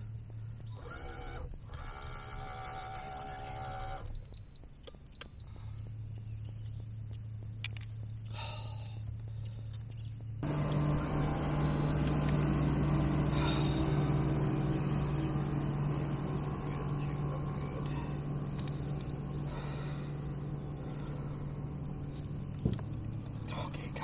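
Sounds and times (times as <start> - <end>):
motor hum: 0.0 - 24.0.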